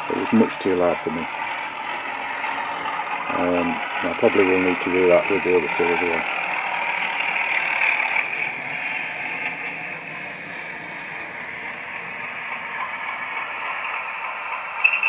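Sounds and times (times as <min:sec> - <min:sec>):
model locomotive diesel hum: 0:00.0 - 0:15.0.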